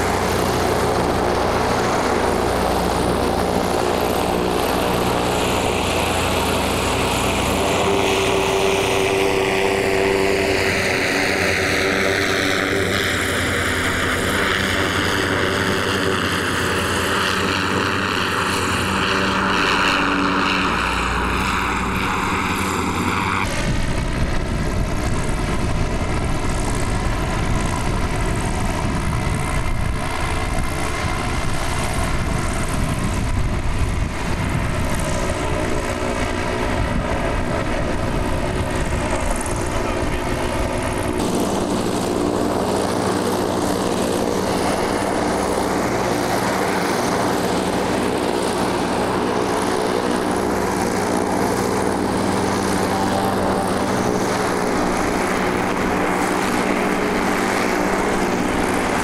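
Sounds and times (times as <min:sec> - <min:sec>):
airship propeller engines: 0:00.0 - 0:59.0.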